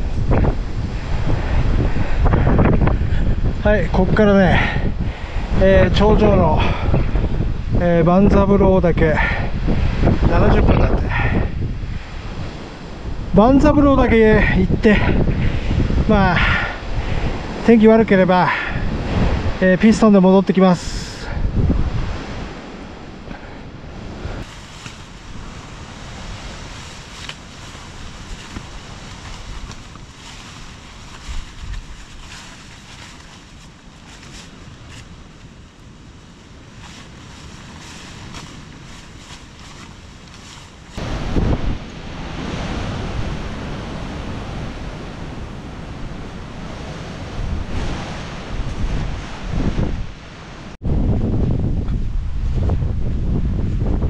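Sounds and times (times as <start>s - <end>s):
wind buffeting microphone: 0.0s - 54.0s
wind rushing through trees: 0.0s - 54.0s.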